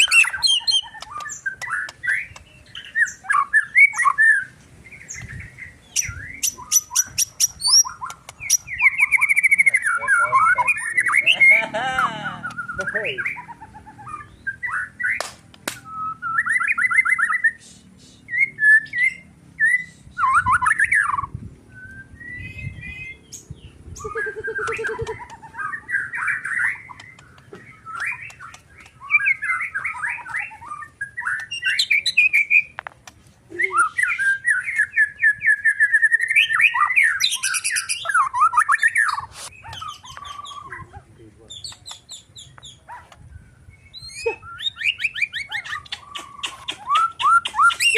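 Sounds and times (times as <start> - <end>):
songbird whistling and trilling: 0.0 - 11.4, 12.4 - 32.7, 33.5 - 40.9, 41.5 - 47.9.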